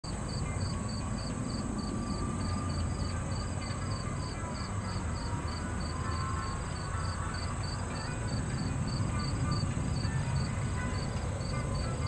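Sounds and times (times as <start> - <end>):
diesel locomotives rumbling: 0.1 - 12.0
insects chirping: 0.1 - 12.0.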